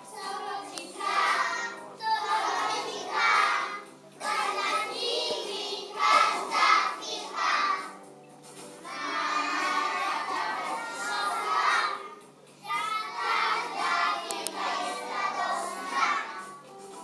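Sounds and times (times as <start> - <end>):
children singing together: 0.0 - 8.1, 8.8 - 16.7.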